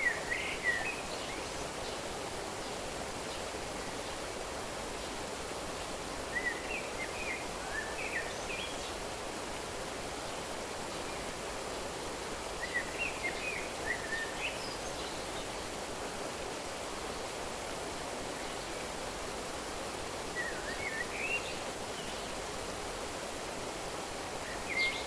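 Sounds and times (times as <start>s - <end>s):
flowing stream rushing: 0.0s - 25.0s.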